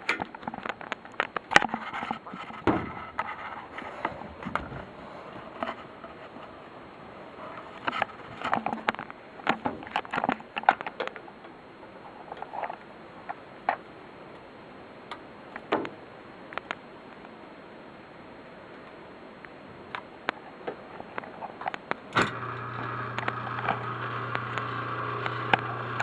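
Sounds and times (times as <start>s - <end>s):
steady background noise: 0.0s - 22.4s.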